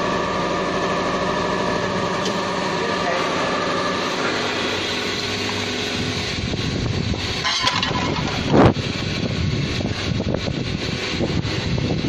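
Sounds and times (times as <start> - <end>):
oil press mechanical drone: 0.0 - 12.0.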